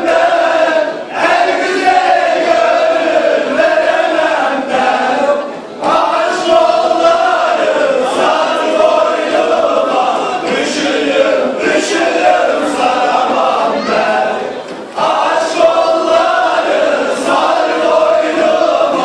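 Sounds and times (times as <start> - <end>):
men singing in unison: 0.0 - 19.0.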